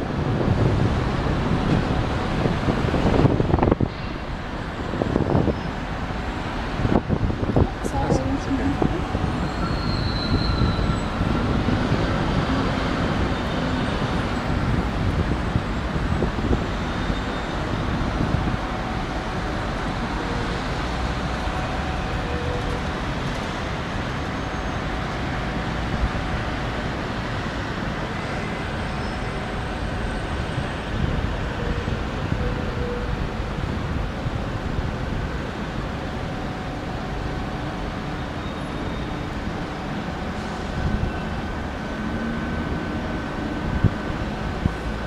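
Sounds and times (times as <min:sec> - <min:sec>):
wind rumbling on microphone: 0:00.0 - 0:38.2, 0:39.4 - 0:45.0
city traffic noise: 0:00.0 - 0:45.0.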